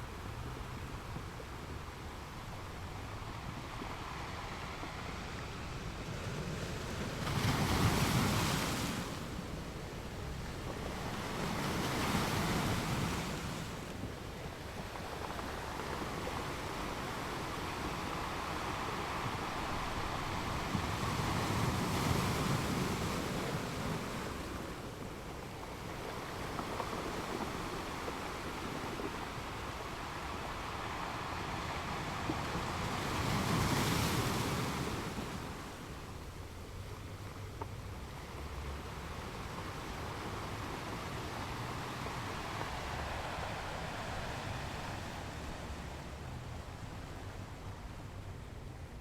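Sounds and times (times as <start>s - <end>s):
ocean waves on beach: 0.0s - 49.0s.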